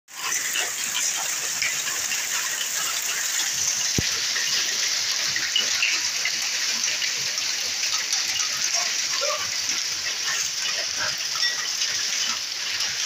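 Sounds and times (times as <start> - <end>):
hail and heavy rain pelting: 0.2 - 13.0.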